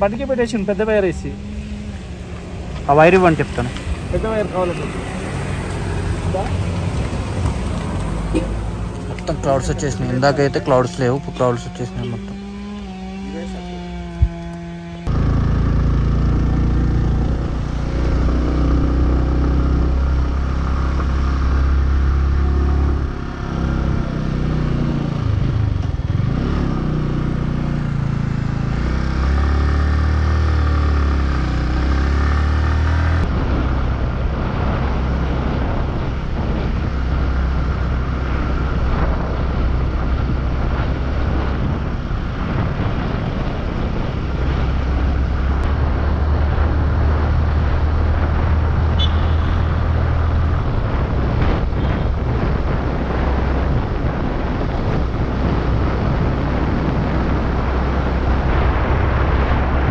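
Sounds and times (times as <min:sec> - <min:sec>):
motorcycle engine revving: 0:00.0 - 0:59.9
noisy rush: 0:00.0 - 0:59.9.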